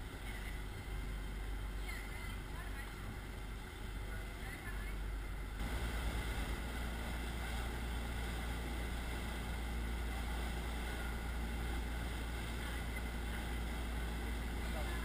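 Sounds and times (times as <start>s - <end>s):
hiss of wind and water: 0.0s - 15.0s
motorboat engine droning: 0.0s - 15.0s.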